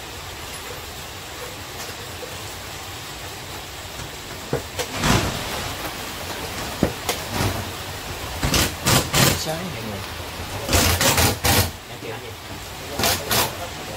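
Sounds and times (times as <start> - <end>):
steady background hiss: 0.0 - 13.9.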